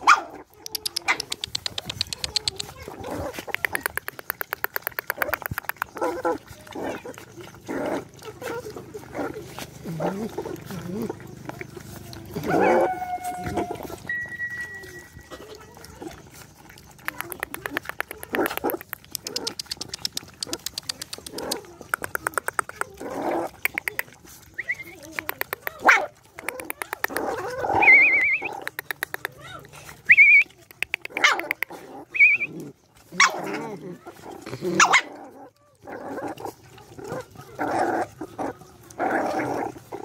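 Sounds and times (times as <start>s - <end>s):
puppies barking: 0.0s - 40.0s
puppies chewing and smacking: 0.0s - 40.0s
puppies whining: 0.0s - 40.0s.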